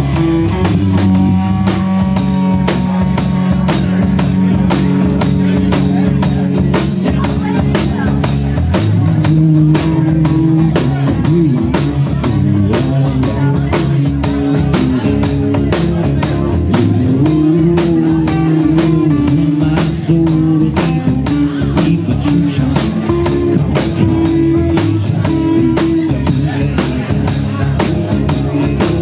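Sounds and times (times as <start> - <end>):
drum kit beat: 0.0 - 29.0
live rock band playing: 0.0 - 29.0.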